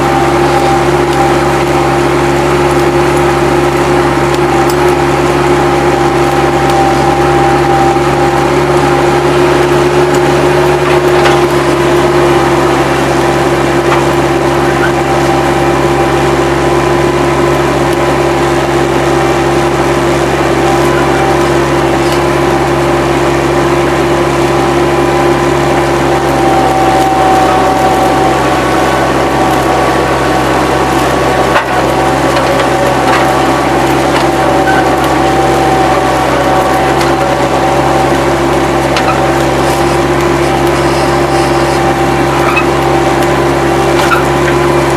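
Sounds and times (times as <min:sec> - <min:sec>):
diesel engine running: 0:00.0 - 0:44.9
steady whine: 0:00.0 - 0:44.9.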